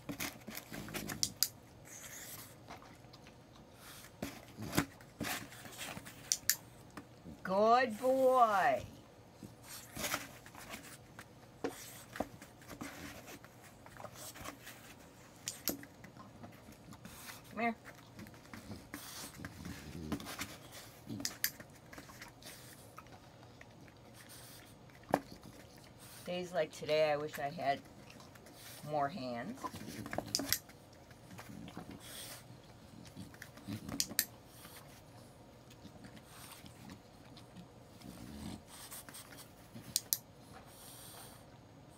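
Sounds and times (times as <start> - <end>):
handling and rustling noises: 0.0 - 7.4, 8.0 - 38.3.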